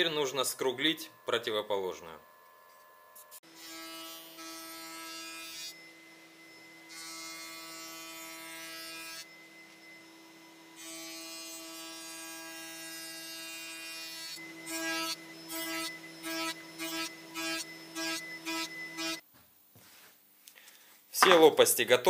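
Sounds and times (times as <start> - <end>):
router motor high whine: 0.0 - 19.2.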